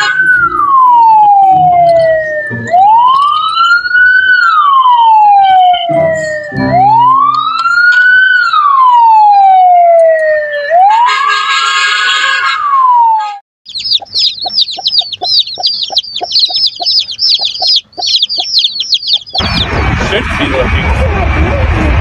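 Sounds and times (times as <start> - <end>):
toy siren wailing: 0.0 - 19.4.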